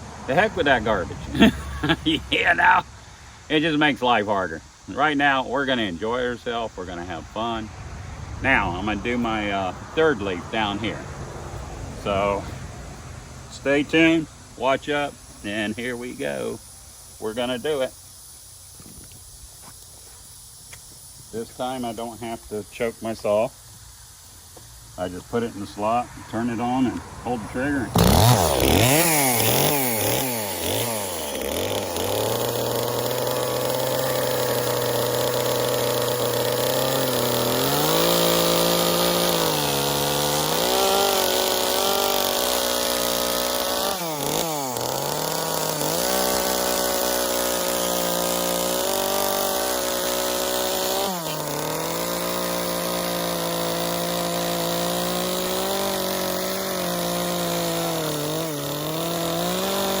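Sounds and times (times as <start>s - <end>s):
chainsaw cutting wood: 0.0s - 2.8s, 8.4s - 23.4s, 24.5s - 60.0s.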